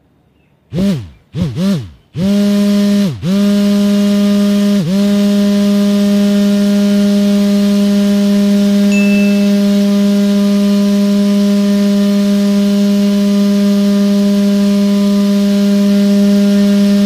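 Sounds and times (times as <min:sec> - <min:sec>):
small electric motor humming: 0:00.7 - 0:17.0.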